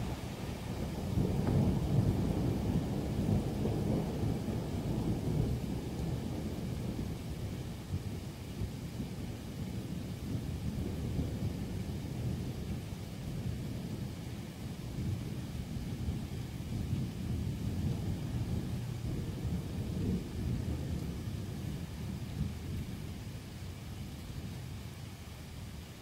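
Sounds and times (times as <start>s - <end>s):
thunder rumbling: 0.0s - 9.2s, 9.8s - 23.1s.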